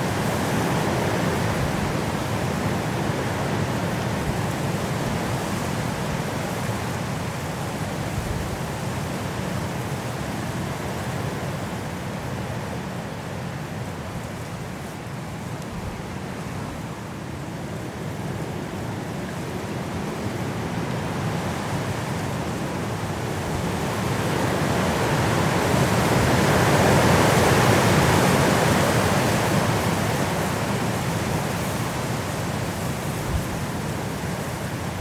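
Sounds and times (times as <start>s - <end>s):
strong wind through trees: 0.0s - 35.0s.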